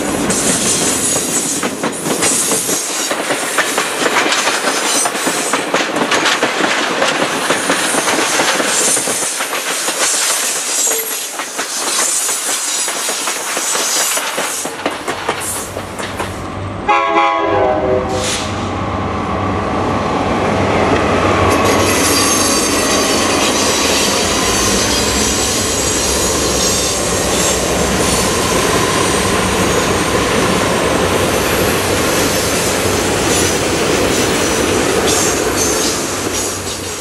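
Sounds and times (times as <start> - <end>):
train wheels rolling on rails: 0.0 - 16.6, 20.2 - 37.0
diesel locomotive engines: 0.0 - 37.0.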